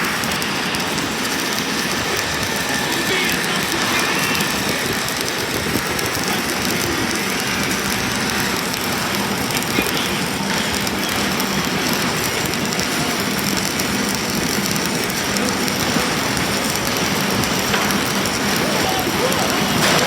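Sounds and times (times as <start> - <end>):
welding arc crackle: 0.0 - 20.0.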